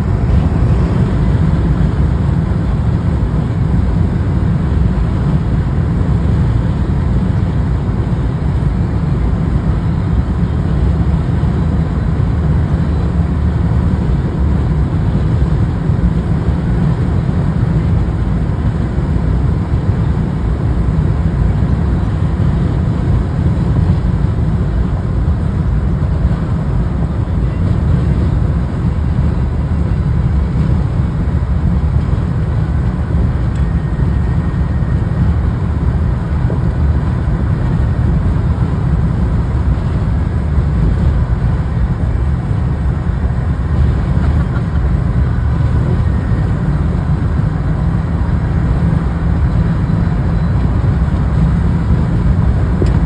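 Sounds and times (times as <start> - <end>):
road and wind noise in car: 0.0 - 53.0.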